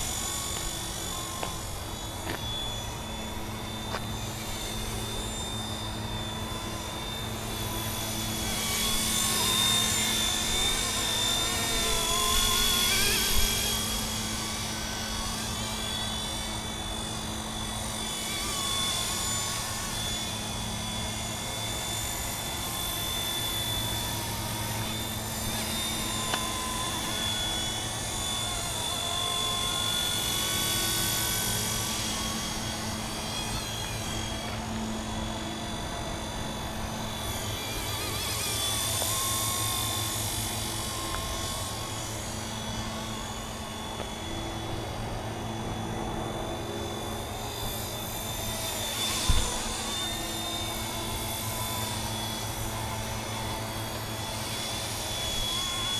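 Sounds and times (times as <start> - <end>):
helicopter high whine: 0.0 - 55.9
helicopter rotor beat: 0.0 - 55.9.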